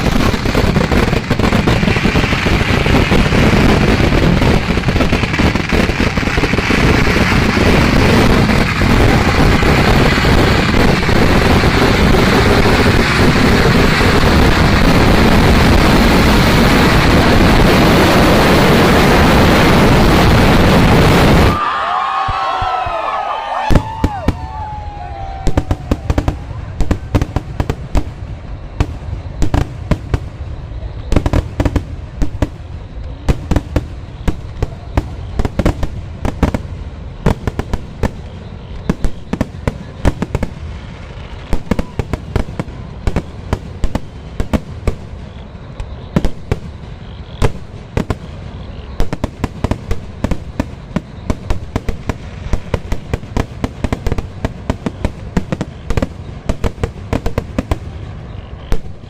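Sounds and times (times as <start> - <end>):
firework bangs: 0.0 - 59.0
low rumble of explosions: 0.0 - 59.0.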